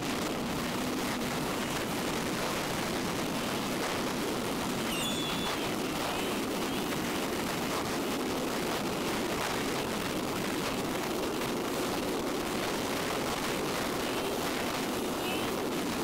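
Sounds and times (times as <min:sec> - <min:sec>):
motorcycle road noise: 0:00.0 - 0:16.0
wind rush: 0:00.0 - 0:16.0.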